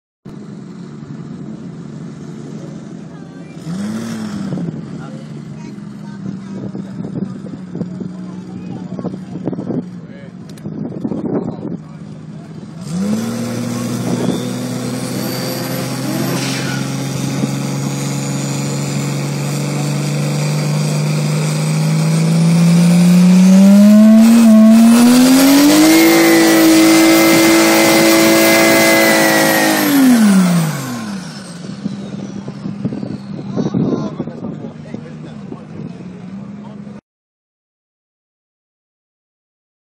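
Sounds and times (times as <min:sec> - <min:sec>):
diesel car engine revving: 0:00.3 - 0:37.0.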